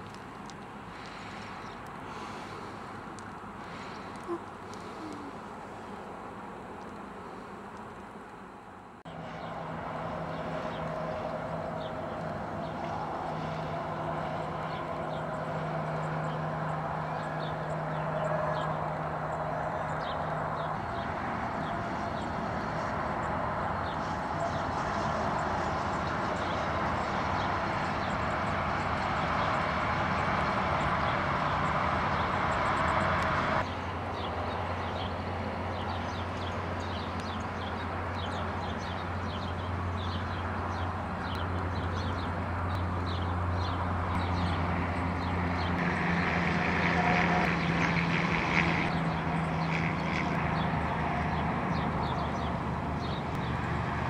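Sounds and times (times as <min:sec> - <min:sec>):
low hum of distant traffic: 0:00.0 - 0:54.0.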